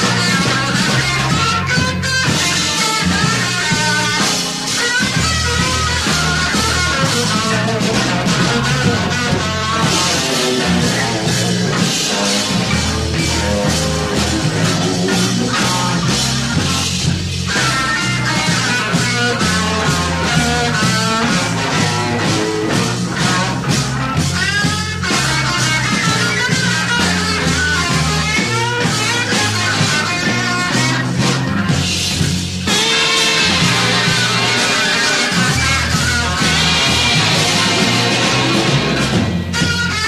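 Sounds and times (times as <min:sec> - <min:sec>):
psychedelic rock band playing: 0:00.0 - 0:40.0.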